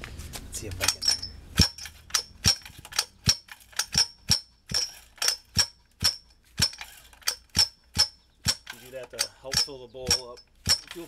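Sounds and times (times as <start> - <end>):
rhythmic metallic clinks: 0.8 - 11.0.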